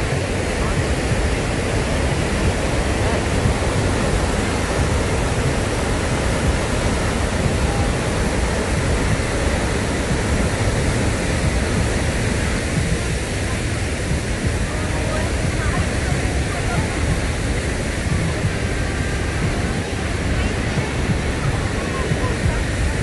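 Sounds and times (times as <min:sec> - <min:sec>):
rushing white water: 0:00.0 - 0:23.0.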